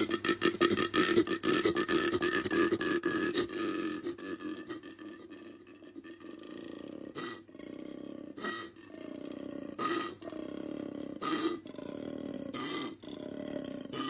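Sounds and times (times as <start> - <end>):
koala belch-like grunts: 0.0 - 14.0.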